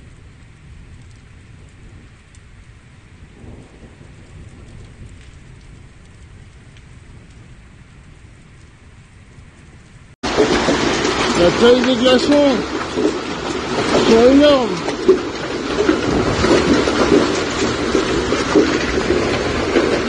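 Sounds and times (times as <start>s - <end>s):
heavy rain pouring: 0.0s - 20.0s
low rumble of thunder: 0.0s - 20.0s.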